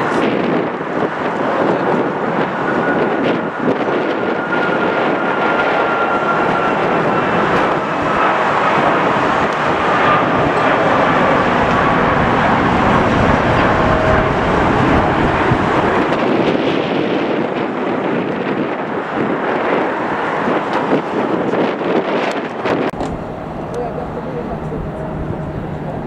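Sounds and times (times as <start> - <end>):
faint jet engine whine: 0.0 - 26.0
jet airliner roar: 0.0 - 26.0.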